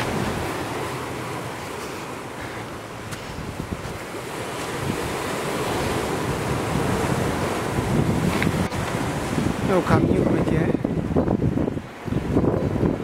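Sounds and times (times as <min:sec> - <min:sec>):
surf on rocky shore: 0:00.0 - 0:13.0
wind buffeting microphone: 0:00.0 - 0:13.0.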